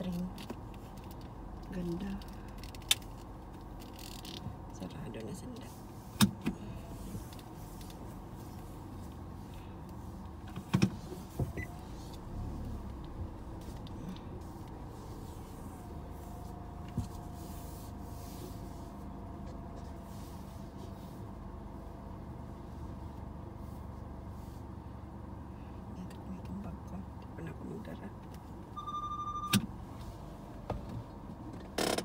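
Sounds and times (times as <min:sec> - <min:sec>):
car engine rumble inside car: 0:00.0 - 0:32.0.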